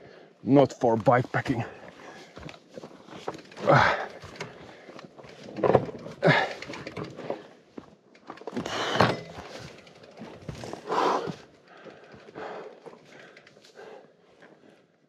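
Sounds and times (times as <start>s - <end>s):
bike thumping and rattling: 1.1s - 14.0s.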